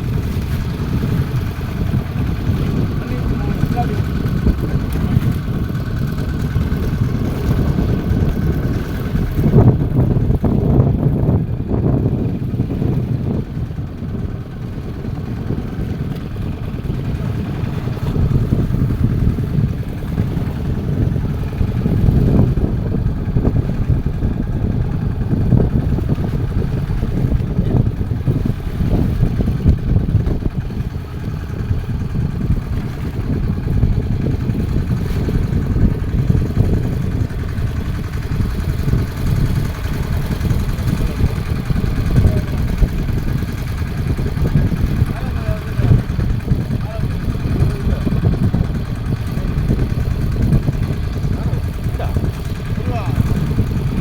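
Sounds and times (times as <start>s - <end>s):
boat engine rumbling: 0.0s - 54.0s.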